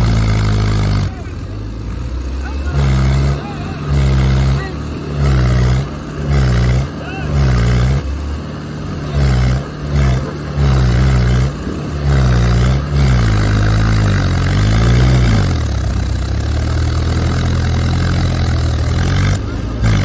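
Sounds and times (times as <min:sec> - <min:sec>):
diesel tractor engine revving: 0:00.0 - 0:20.0.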